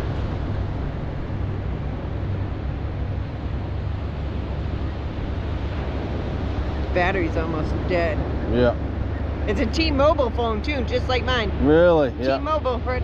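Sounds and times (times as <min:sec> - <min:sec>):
surf rushing: 0:00.0 - 0:13.0
wind rumble on microphone: 0:00.0 - 0:13.0.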